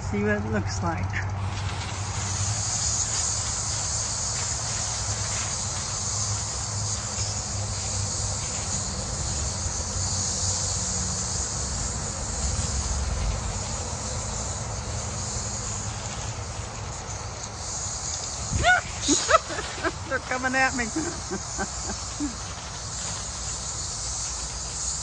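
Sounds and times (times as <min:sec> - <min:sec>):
cicadas buzzing: 0:00.0 - 0:25.0.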